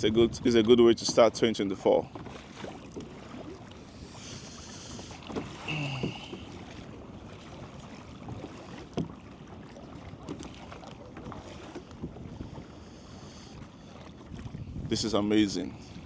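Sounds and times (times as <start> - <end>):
paddle splashing in water: 0.0 - 16.0
steady wash of water: 0.0 - 16.0.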